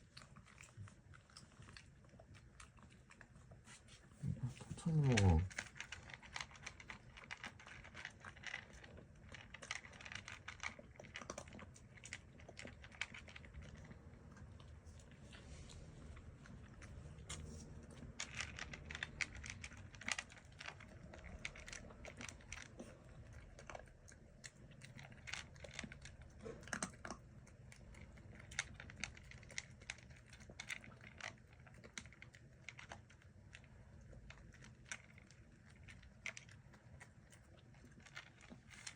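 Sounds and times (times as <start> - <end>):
puppy chewing and crunching food: 0.0 - 38.9.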